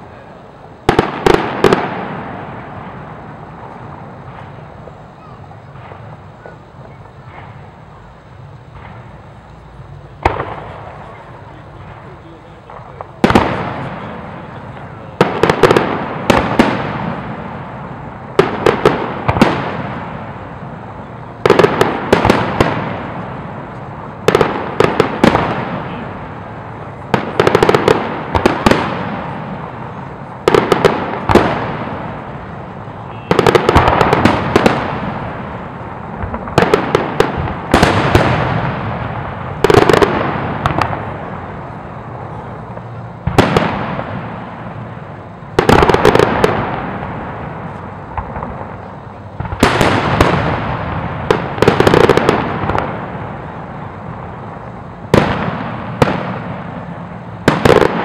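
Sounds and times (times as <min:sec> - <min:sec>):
firework shells bursting: 0:00.8 - 0:58.0.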